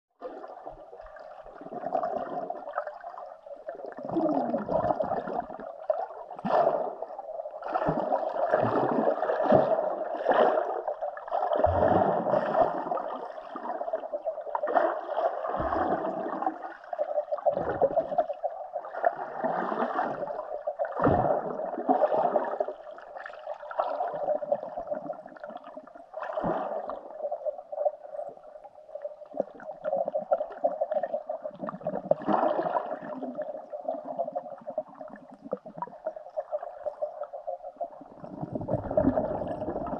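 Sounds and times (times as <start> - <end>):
underwater water swirl and bubbles: 0.1 - 39.9.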